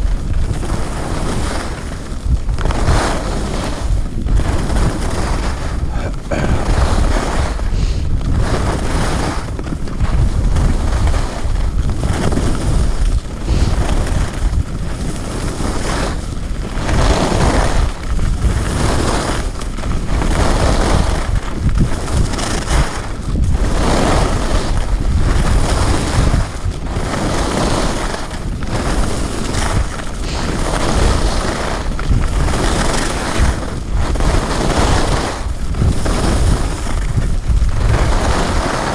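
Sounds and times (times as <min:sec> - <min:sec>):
skis scraping over snow: 0:00.0 - 0:38.9
wind rushing over microphone: 0:00.0 - 0:38.9.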